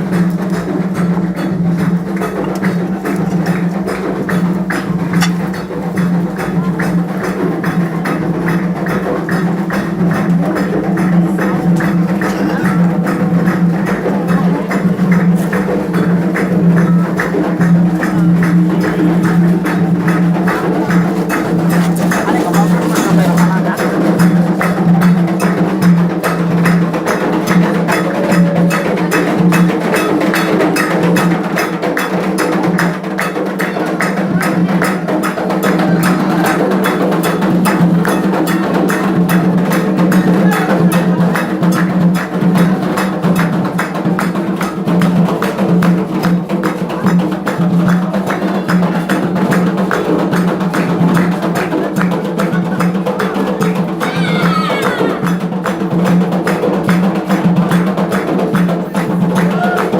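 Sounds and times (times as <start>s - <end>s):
clacking struck instrument: 0.0s - 59.9s
drums beating fast: 0.0s - 59.9s.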